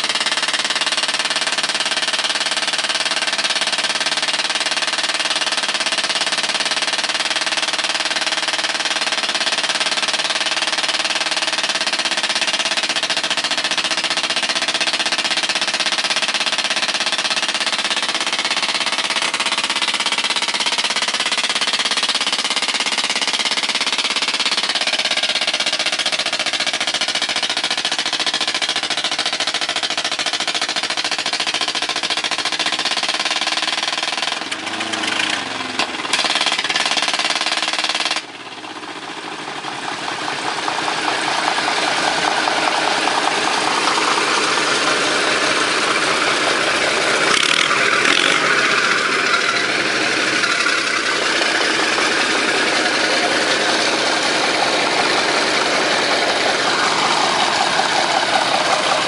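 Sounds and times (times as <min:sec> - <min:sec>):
diesel engine exhaust beat: 0:00.0 - 0:59.0.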